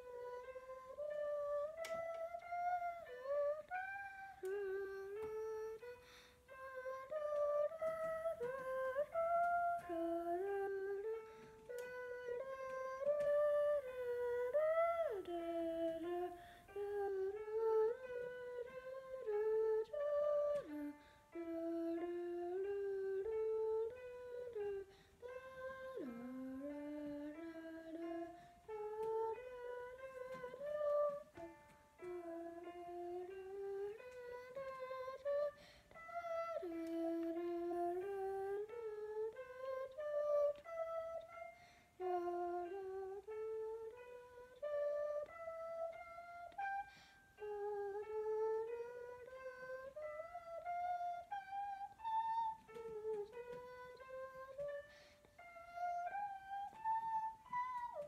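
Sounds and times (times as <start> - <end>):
slow solo melody: 0.0 - 58.0.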